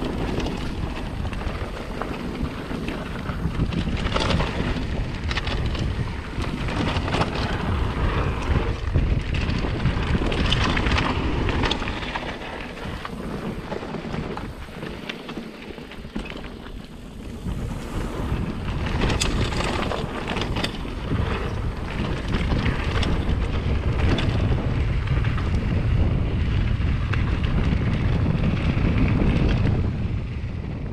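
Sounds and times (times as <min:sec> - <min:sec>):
tyres rumbling on dirt: 0:00.0 - 0:30.4
bike rattling clacks: 0:00.0 - 0:30.9
wind buffeting microphone: 0:00.0 - 0:30.9.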